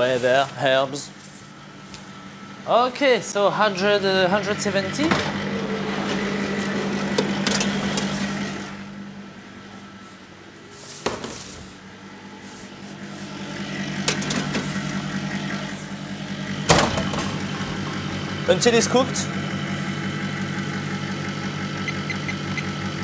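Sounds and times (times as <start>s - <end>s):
kitchen machine hum: 0.0s - 23.0s.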